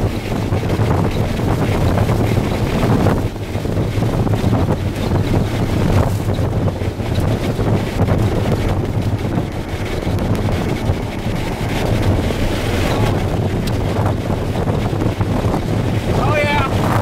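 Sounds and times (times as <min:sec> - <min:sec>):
wind buffeting a vehicle: 0:00.0 - 0:17.0.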